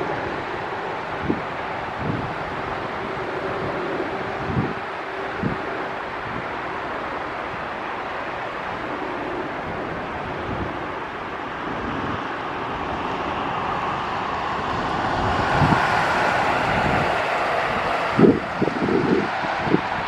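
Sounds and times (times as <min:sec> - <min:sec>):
jet airliner engine rumble: 0:00.0 - 0:20.0
wind buffeting microphone: 0:00.0 - 0:20.0.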